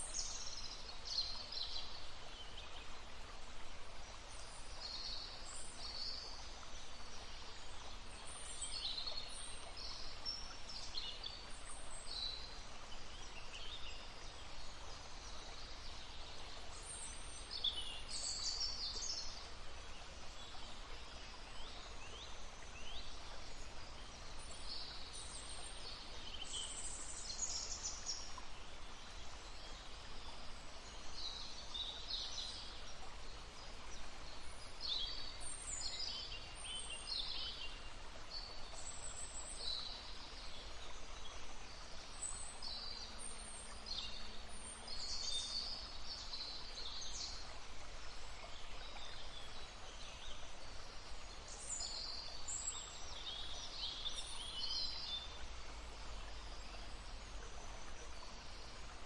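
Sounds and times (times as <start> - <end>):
songbirds chirping: 0.0 - 59.0
stream babbling: 0.0 - 59.0.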